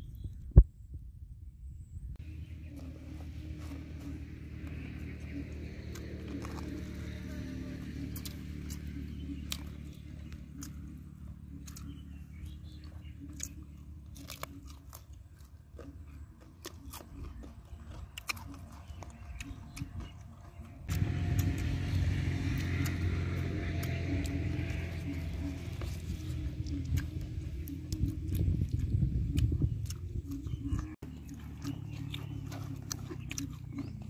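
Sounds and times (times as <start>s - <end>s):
low rumble with hiss: 0.0s - 34.0s
person chewing crisp food: 2.2s - 34.0s.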